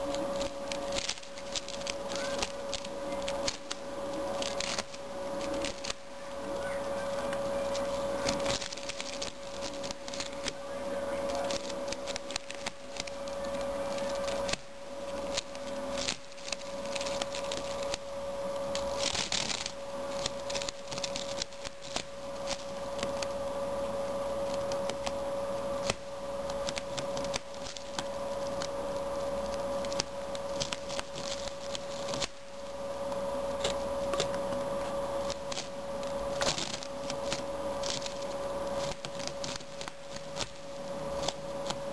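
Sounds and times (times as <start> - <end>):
rabbit gnawing dry straw: 0.0 - 41.9
straw rustling: 0.0 - 41.9.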